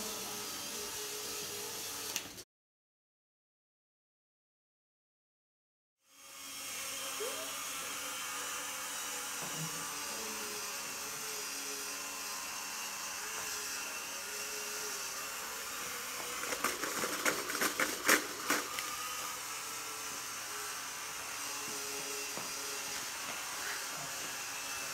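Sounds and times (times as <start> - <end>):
electric motors whining: 0.0 - 2.4, 6.1 - 24.9.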